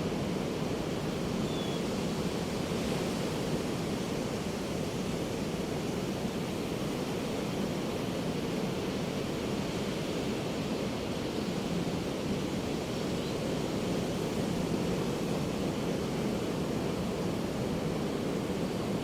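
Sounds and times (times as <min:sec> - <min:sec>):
ocean surf washing on beach: 0:00.0 - 0:19.0.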